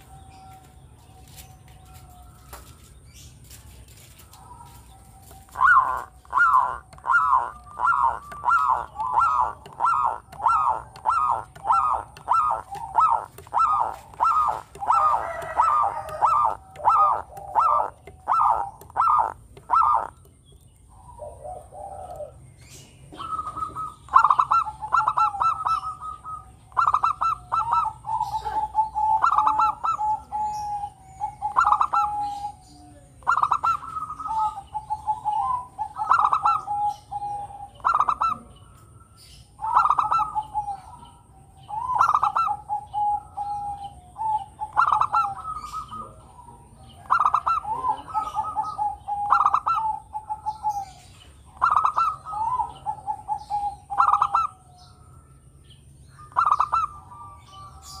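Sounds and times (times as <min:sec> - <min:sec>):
dove cooing: 0:04.3 - 0:55.1, 0:56.1 - 0:58.0.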